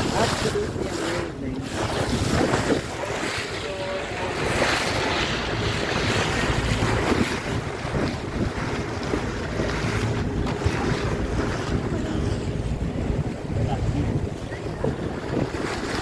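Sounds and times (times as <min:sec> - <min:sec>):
water splashing past boat hull: 0:00.0 - 0:16.0
wind buffeting microphone: 0:00.0 - 0:16.0.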